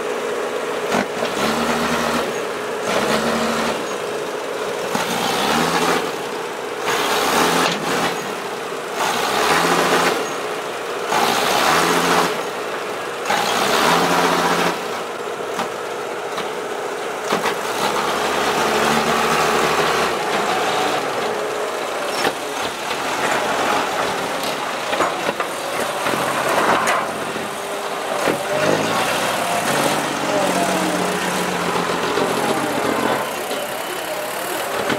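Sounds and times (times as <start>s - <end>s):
diesel truck engine revving: 0.0s - 34.9s.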